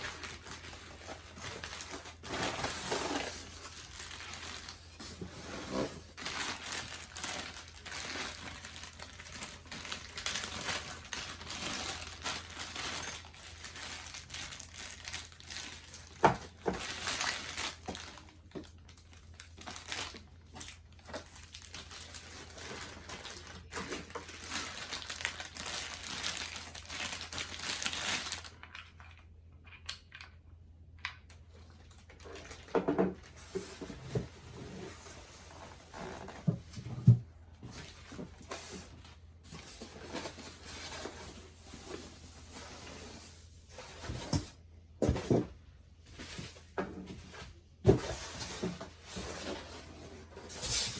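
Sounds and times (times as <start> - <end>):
packaging crinkling and rustling: 0.0 - 29.3, 31.3 - 50.9.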